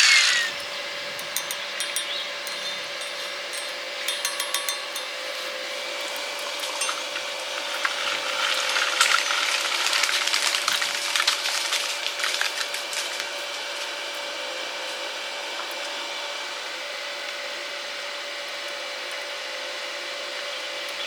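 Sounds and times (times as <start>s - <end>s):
welding machine hum and hiss: 0.0s - 21.0s.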